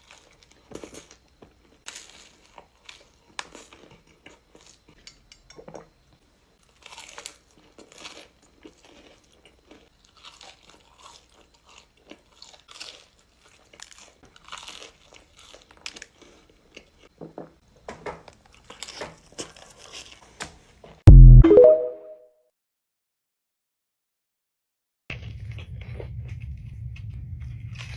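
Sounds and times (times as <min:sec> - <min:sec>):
crunchy eating and chewing: 0:00.0 - 0:21.0, 0:25.1 - 0:27.9.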